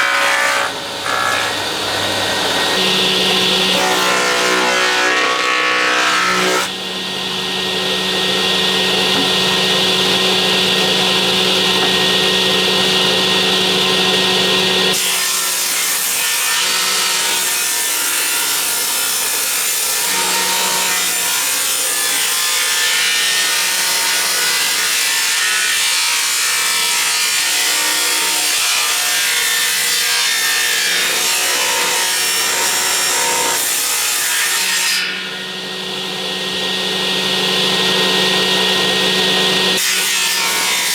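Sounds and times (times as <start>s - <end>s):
power tool cutting timber: 0.0s - 40.9s.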